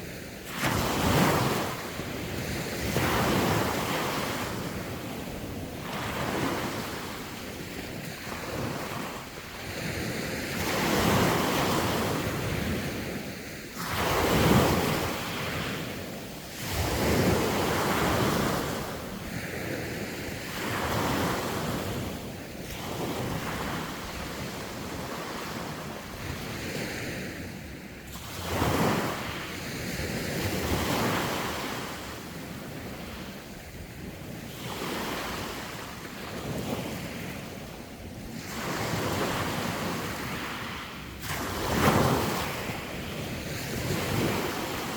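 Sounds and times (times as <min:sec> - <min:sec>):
sea waves breaking: 0:00.0 - 0:44.9
wind buffeting microphone: 0:00.0 - 0:44.9.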